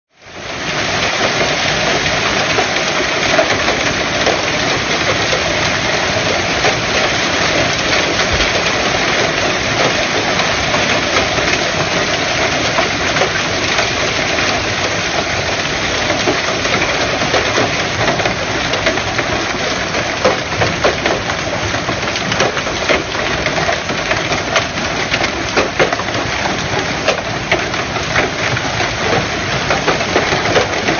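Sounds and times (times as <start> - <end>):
hail clattering: 0.4 - 30.9.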